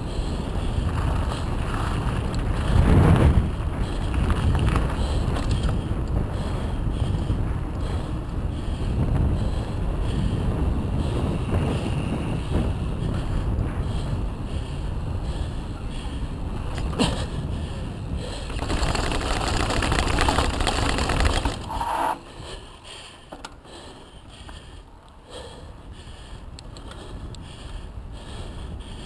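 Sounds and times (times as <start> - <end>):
bike tyres rolling on gravel: 0.0 - 24.8
wind buffeting microphone: 0.0 - 29.0.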